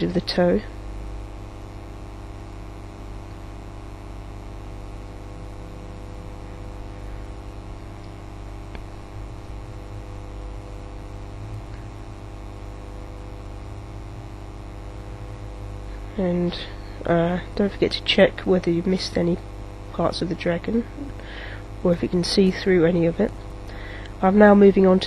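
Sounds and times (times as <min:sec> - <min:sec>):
electrical mains hum: 0:00.0 - 0:25.0
static hiss: 0:00.0 - 0:25.0.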